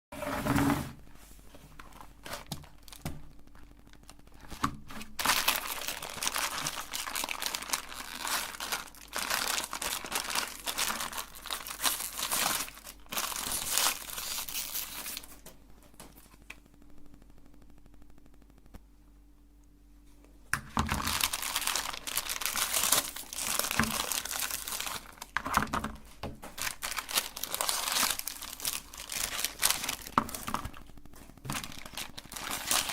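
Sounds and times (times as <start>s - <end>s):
faint steady hum: 0.2s - 32.9s
plastic wrapper crinkling and tearing: 1.5s - 16.9s, 20.6s - 32.9s.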